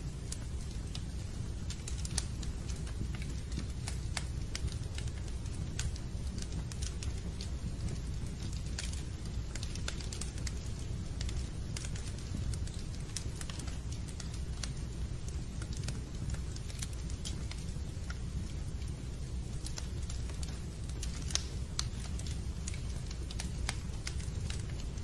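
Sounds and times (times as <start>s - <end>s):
wood fire crackling in fireplace: 0.0s - 25.0s.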